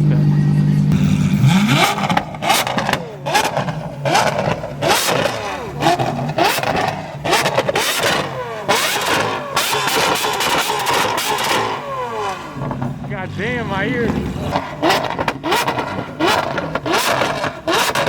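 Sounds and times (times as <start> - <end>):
car engine revving hard: 0.9 - 18.0
sharp exhaust cracks: 0.9 - 18.0.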